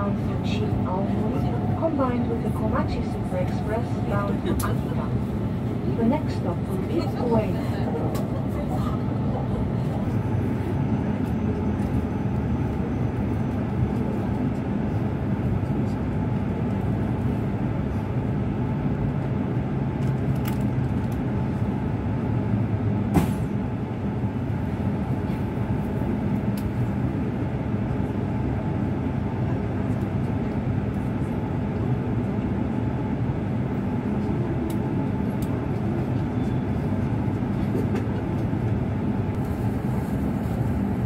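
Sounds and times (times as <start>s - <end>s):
train rumble and hum: 0.0s - 41.0s.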